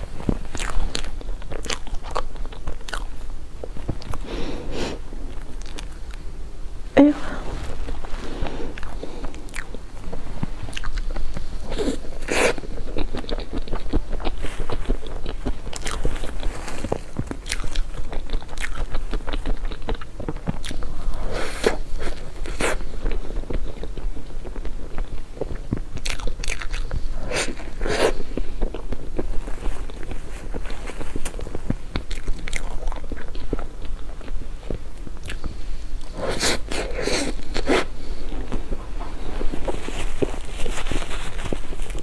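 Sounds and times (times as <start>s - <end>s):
chewing close to microphone: 0.0s - 6.2s, 7.7s - 42.0s.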